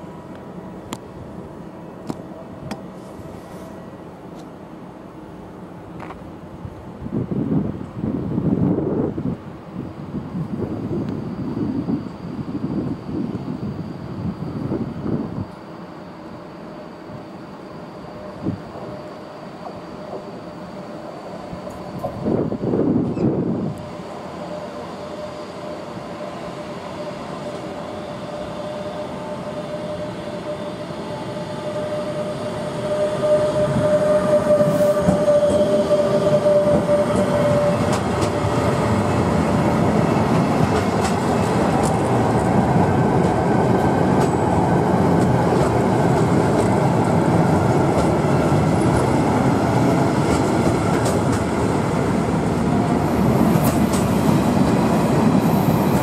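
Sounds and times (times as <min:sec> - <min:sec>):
electric locomotive steady tone: 0:00.0 - 0:56.0.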